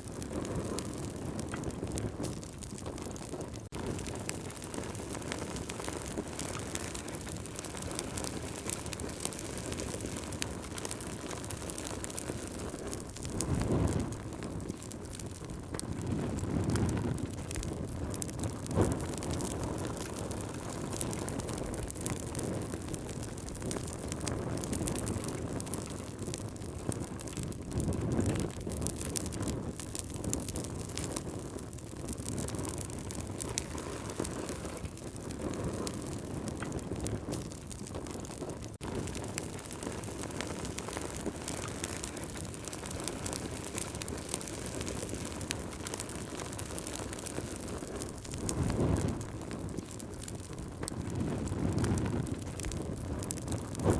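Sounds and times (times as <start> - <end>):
burning wood crackling and popping: 0.0 - 53.9
campfire flames rushing: 0.0 - 53.9.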